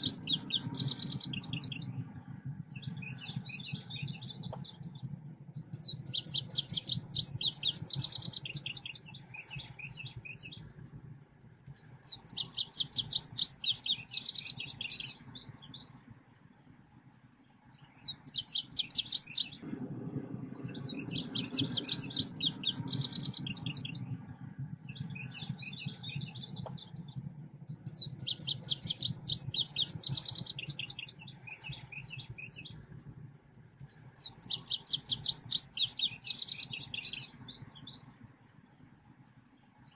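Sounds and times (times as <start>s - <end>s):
songbird twittering chirps: 0.0s - 16.8s, 17.4s - 39.9s
steady low hum: 0.0s - 39.9s.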